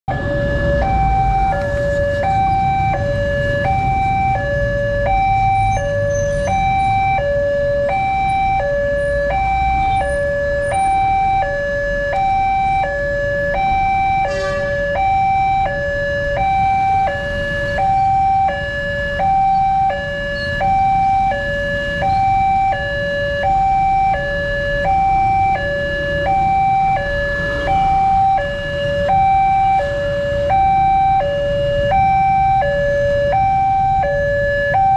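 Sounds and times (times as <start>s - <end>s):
traffic rumble: 0.1s - 34.9s
two-tone crossing alarm: 0.1s - 34.9s.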